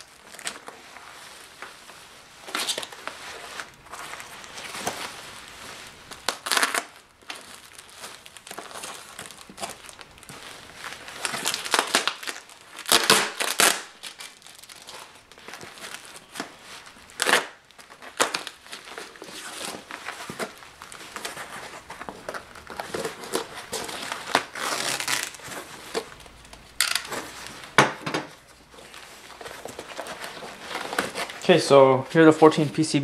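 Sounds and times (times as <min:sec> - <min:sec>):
bubble wrap crinkling: 0:00.0 - 0:33.0.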